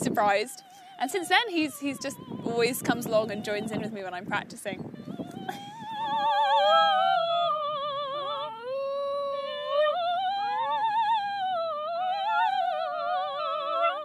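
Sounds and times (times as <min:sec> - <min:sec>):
soprano singing opera: 0:00.0 - 0:14.0.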